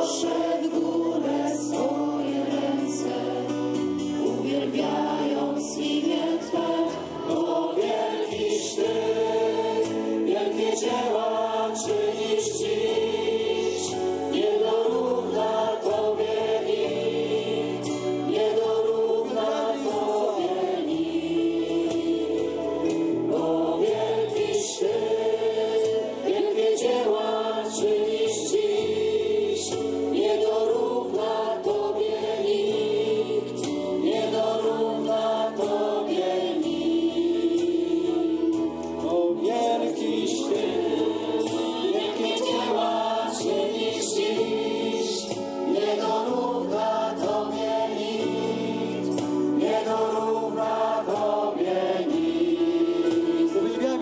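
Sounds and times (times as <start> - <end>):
crowd singing a hymn: 0.0 - 54.0.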